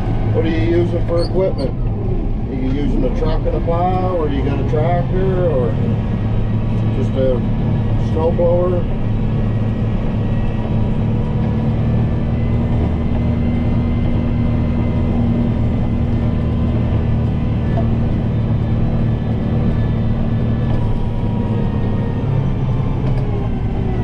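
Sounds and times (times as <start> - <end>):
tractor diesel engine droning: 0.0 - 24.0.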